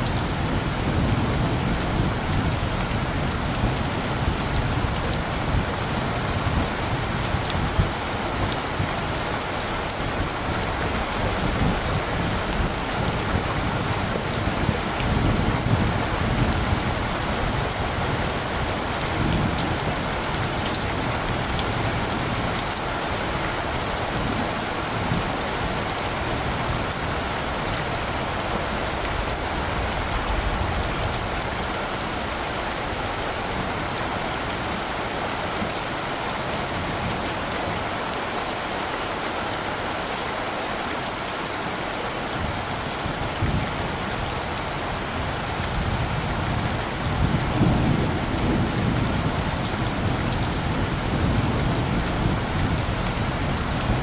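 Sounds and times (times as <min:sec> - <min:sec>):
low rumble of thunder: 0:00.0 - 0:35.0, 0:42.3 - 0:54.0
steady rain falling: 0:00.0 - 0:54.0.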